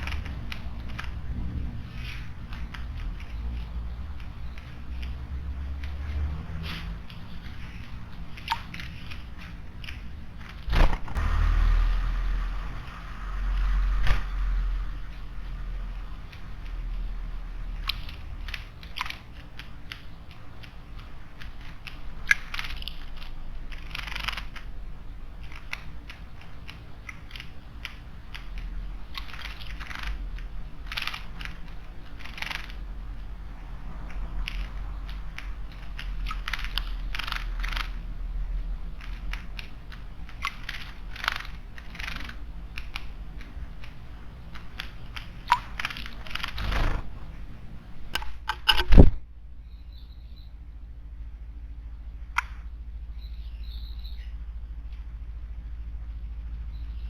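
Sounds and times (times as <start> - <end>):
wings fluttering: 0.0 - 38.2, 38.8 - 47.6
steady low rumble: 0.0 - 57.0.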